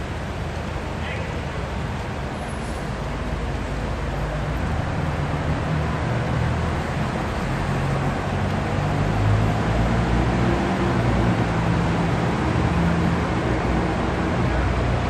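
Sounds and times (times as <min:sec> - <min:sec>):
rushing rain: 0:00.0 - 0:15.0.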